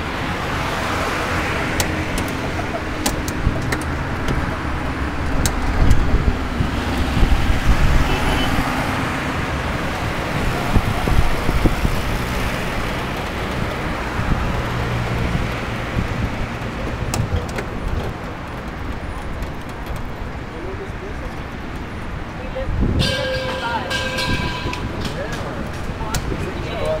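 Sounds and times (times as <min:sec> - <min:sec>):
road noise: 0:00.0 - 0:27.0
street traffic: 0:00.0 - 0:27.0.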